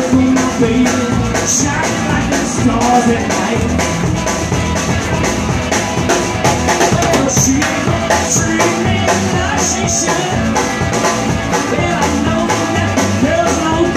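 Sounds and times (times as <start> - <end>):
drums keeping steady beat: 0.0 - 13.9
electric guitar: 0.0 - 13.9
rock and roll band instrumental: 0.0 - 13.9
upright double bass: 0.0 - 13.9.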